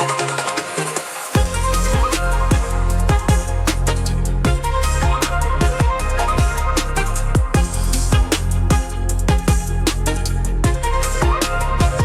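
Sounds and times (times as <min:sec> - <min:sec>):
electronic music with deep bass drum: 0:00.0 - 0:12.0.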